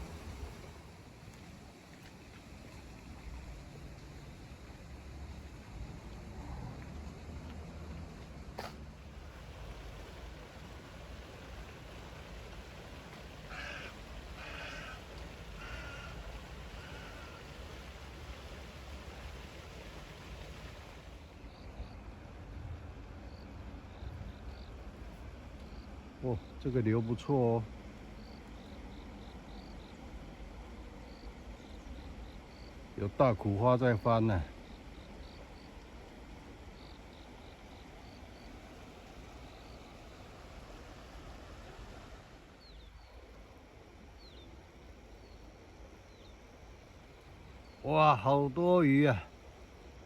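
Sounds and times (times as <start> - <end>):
creek flowing: 0.0 - 50.0.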